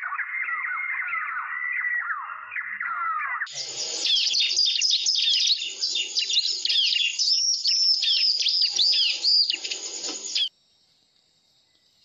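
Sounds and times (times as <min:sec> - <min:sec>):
bird chirping calls: 0:00.0 - 0:10.5.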